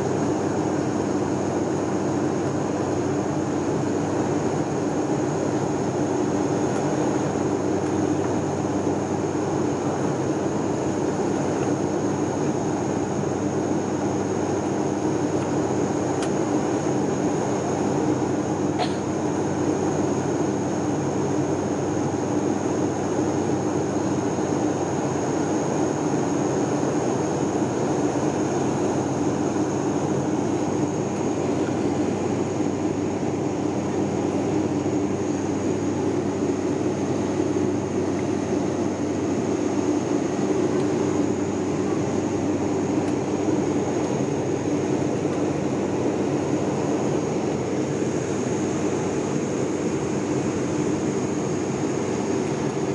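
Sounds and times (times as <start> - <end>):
airliner cabin engine drone: 0.0 - 52.9.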